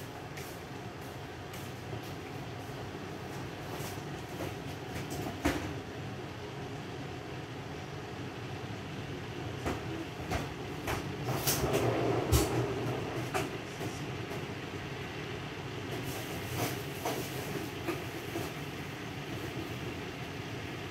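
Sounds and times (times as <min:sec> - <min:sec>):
range hood fan whirring: 0:00.0 - 0:20.9.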